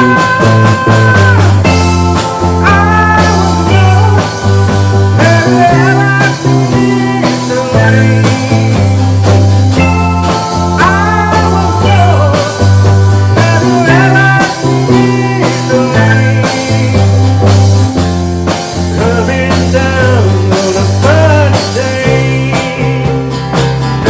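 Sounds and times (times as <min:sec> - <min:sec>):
bass line: 0:00.0 - 0:24.0
lead guitar bending notes: 0:00.0 - 0:24.0
steady drums: 0:00.0 - 0:24.0.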